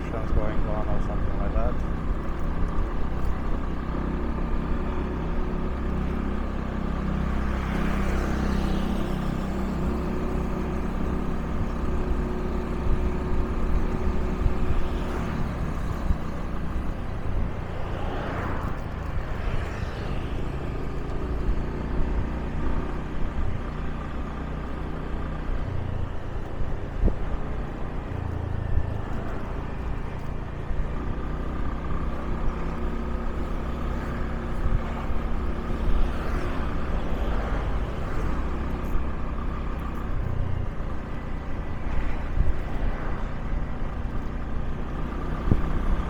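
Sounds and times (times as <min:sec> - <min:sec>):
passing vehicle noise: 0:00.0 - 0:46.0
road noise: 0:00.0 - 0:46.0.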